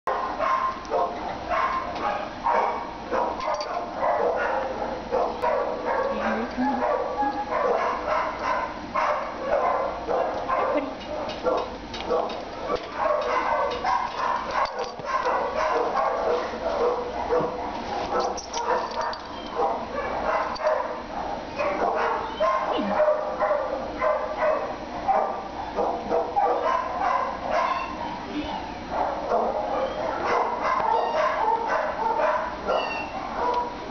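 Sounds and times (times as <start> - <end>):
dogs barking: 0.1 - 33.9.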